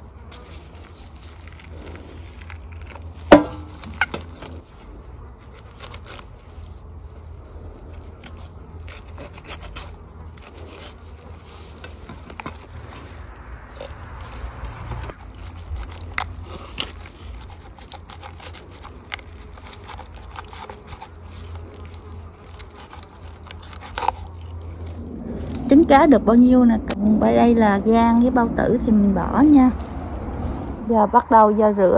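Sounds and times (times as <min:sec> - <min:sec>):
knife scraping inside fish: 0:00.0 - 0:25.8
steady low hum: 0:00.0 - 0:31.9.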